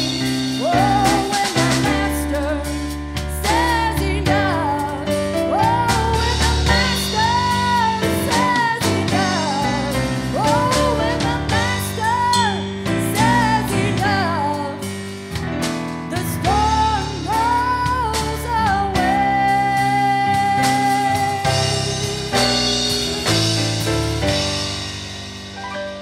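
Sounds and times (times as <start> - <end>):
woman singing gospel: 0.0 - 14.9, 16.1 - 23.9
piano and band accompaniment: 0.0 - 26.0.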